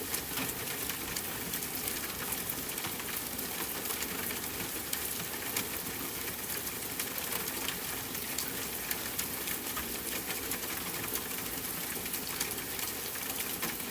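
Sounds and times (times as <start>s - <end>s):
rain pattering on a window: 0.0s - 13.9s.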